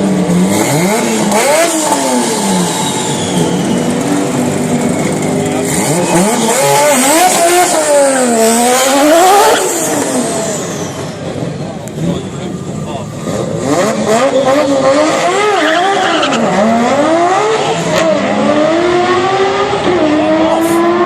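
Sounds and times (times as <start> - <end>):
car engine revving hard: 0.0 - 11.2, 11.9 - 21.0.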